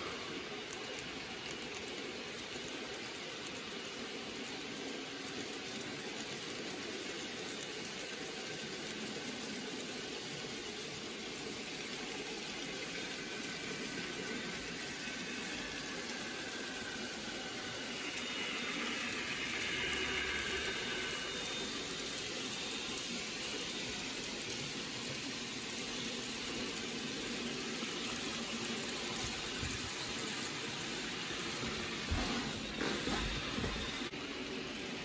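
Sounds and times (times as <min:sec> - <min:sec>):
model train rolling on track: 0:00.0 - 0:35.0.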